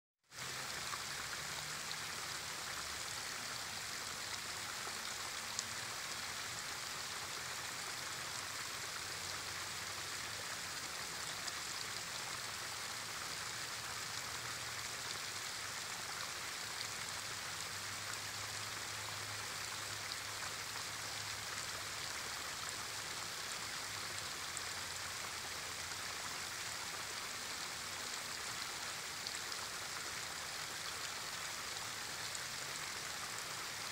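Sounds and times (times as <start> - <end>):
small waterfall splashing: 0.2 - 33.9.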